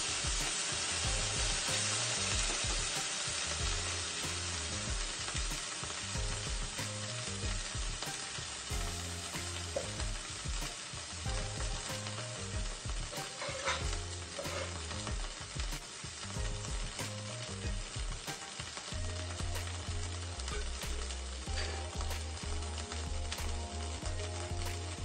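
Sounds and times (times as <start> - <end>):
background music with bass line: 0.0 - 25.0
vegetables sizzling in a frying pan: 0.0 - 25.0.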